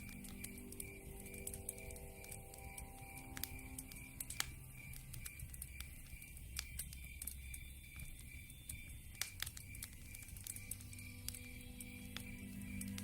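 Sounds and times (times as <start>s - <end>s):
fire popping: 0.0s - 13.0s
insects chirping: 0.0s - 13.0s
wood fire crackling: 0.0s - 13.0s.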